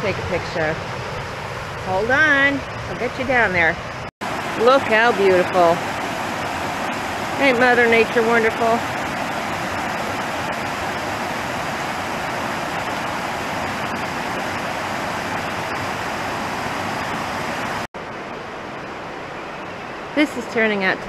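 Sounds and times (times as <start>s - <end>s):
creek running over rocks: 1.8s - 18.8s.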